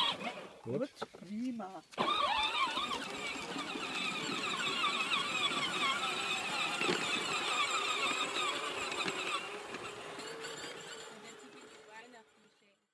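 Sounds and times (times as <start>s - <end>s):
toy tractor motor whining: 0.0s - 0.7s, 1.9s - 12.8s.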